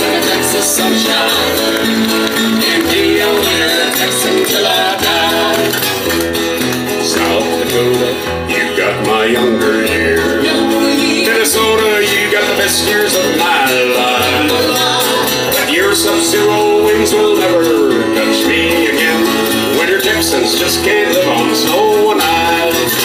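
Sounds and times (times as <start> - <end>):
country music through pa: 0.0 - 23.0.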